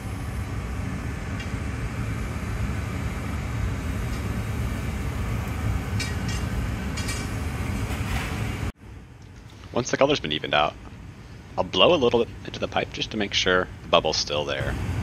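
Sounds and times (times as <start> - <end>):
gas furnace and fans roaring: 0.0 - 15.0.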